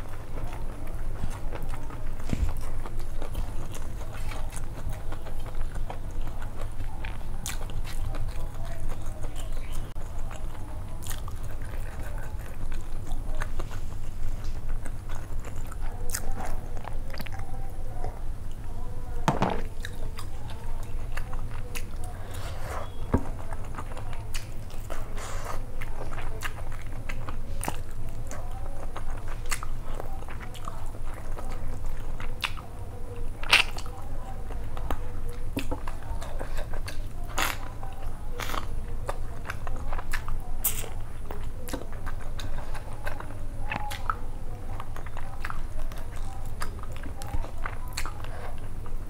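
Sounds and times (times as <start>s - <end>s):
person chewing: 0.0s - 18.8s, 19.4s - 49.0s
steady low hum: 0.0s - 49.0s.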